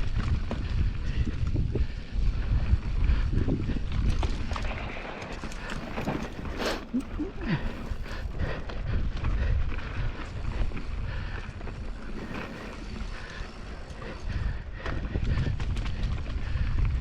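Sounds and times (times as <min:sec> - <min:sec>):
mountain bike rattling on trail: 0:00.0 - 0:17.0
wind buffeting microphone: 0:00.0 - 0:17.0.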